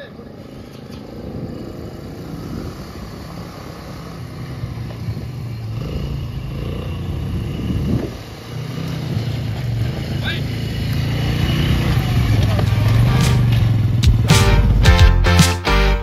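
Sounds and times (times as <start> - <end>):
atv engine running: 0.0 - 15.4.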